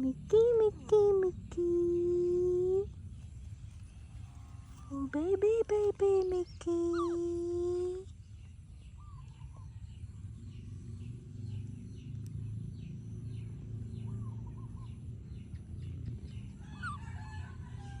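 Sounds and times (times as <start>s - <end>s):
low steady rumble: 0.0s - 18.0s
small birds chirping: 0.0s - 18.0s.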